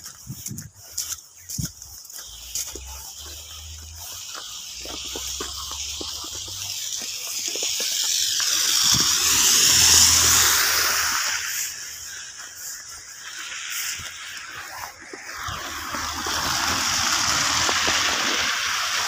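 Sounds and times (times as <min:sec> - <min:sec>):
footsteps crunching in snow: 0:00.0 - 0:18.8
car tyres hissing on wet road: 0:00.8 - 0:19.0.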